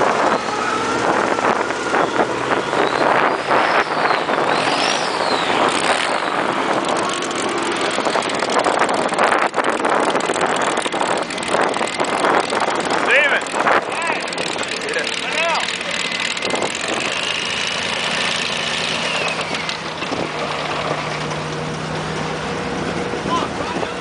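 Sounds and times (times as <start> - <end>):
swamp buggy engine running: 0.0 - 24.0.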